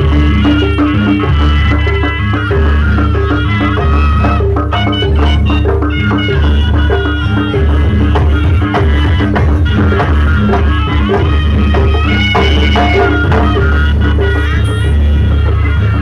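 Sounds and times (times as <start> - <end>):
drum-driven ensemble music: 0.0 - 16.0.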